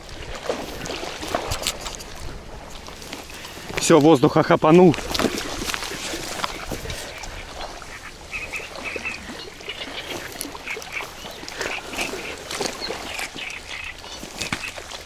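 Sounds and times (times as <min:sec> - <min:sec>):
fish thrashing in water: 0:00.0 - 0:03.9, 0:04.9 - 0:15.0.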